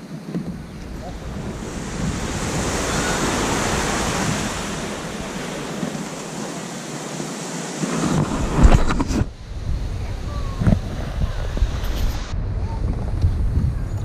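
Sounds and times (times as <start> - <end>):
small waves washing onto sand: 0.0 - 12.4
wind rumbling on microphone: 0.0 - 14.0.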